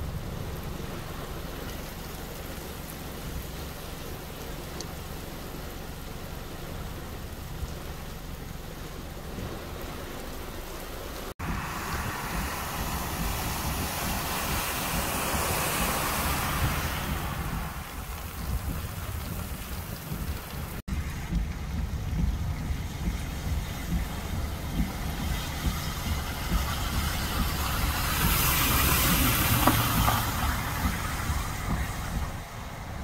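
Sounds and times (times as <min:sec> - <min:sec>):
car splashing through flooded road: 0:00.0 - 0:33.0
heavy rain: 0:00.0 - 0:33.0
tyres splashing through floodwater: 0:00.0 - 0:33.0.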